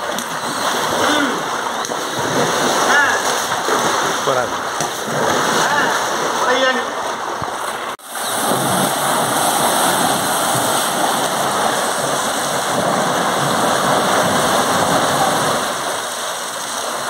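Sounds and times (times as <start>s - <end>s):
hose water spraying and splashing: 0.0s - 17.0s.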